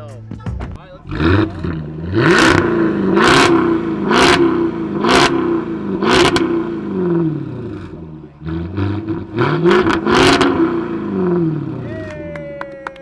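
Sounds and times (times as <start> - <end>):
car engine revving: 0.1 - 12.1.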